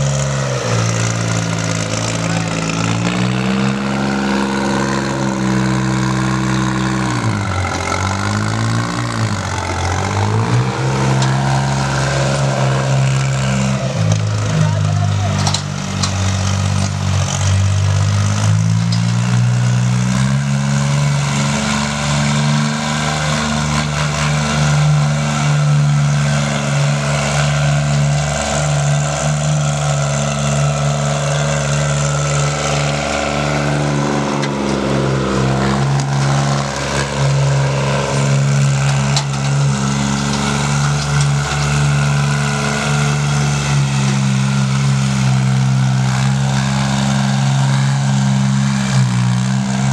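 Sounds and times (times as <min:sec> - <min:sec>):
disc harrow through soil: 0:00.0 - 0:49.9
tractor diesel engine running: 0:00.0 - 0:49.9.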